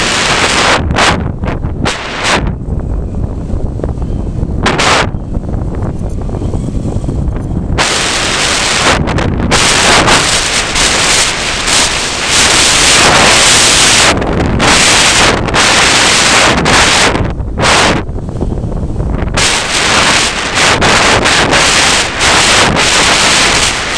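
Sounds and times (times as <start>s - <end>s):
gusty wind buffeting microphone: 0.0s - 23.9s.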